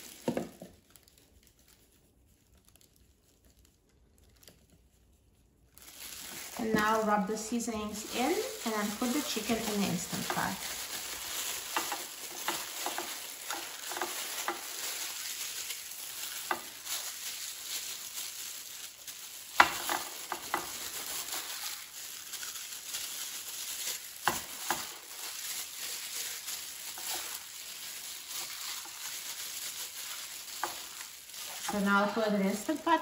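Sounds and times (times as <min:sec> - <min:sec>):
meat squishing: 0:00.0 - 0:33.0
plastic gloves crinkling: 0:00.0 - 0:33.0.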